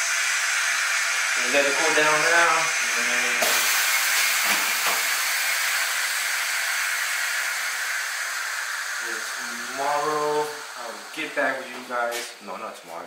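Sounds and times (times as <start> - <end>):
hiss of rushing air: 0.0 - 12.5.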